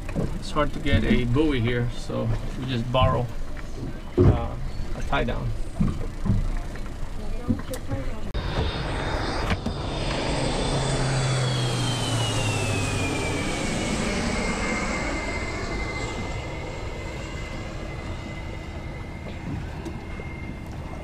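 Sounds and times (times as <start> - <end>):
airplane engine whine overhead: 0.0 - 21.0.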